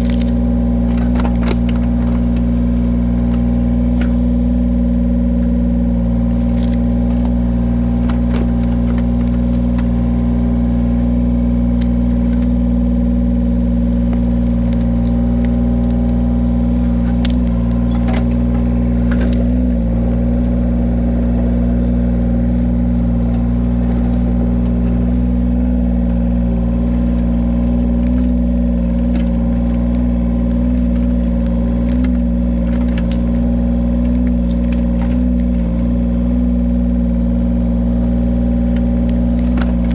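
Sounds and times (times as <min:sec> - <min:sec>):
wood cracking as logs split: 0:00.0 - 0:39.9
wood splitter engine running: 0:00.0 - 0:39.9.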